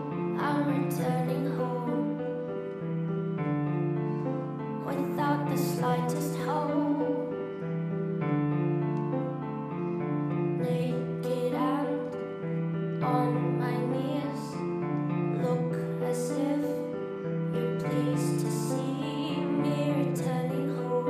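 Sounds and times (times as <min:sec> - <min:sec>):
slow soft keyboard chords: 0:00.0 - 0:21.0.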